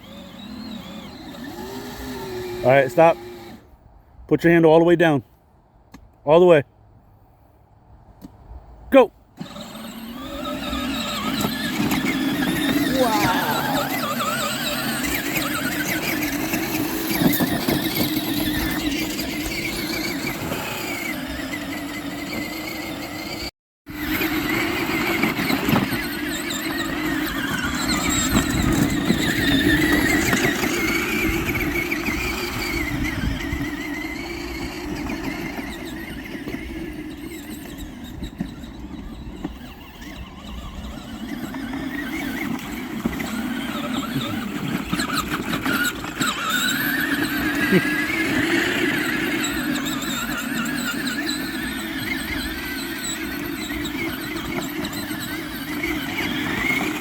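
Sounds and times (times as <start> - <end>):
toy truck electric motors whining: 0.0 - 3.8, 9.4 - 57.0.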